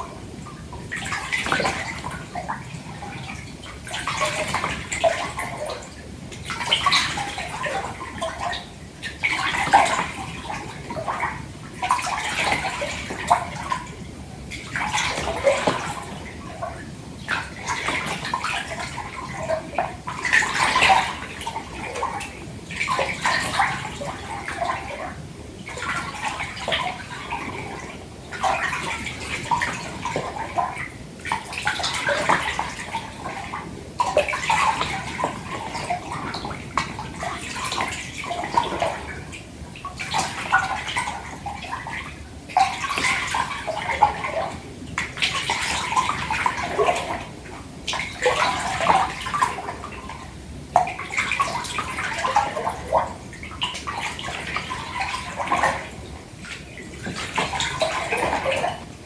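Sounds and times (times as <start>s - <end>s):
water sloshing in a bathtub: 0.0s - 59.0s.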